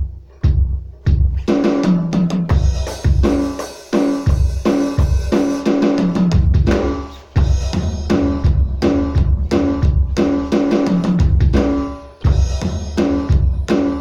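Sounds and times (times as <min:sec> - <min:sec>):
electronic drum kit rock beat: 0:00.0 - 0:14.0
pitched backing music: 0:00.0 - 0:14.0.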